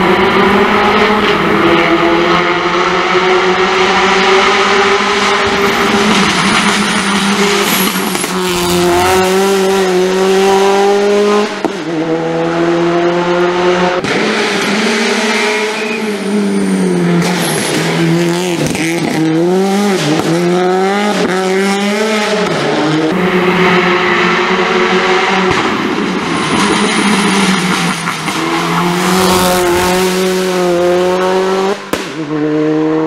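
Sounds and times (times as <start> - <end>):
rally car engine revving hard: 0.0 - 33.0.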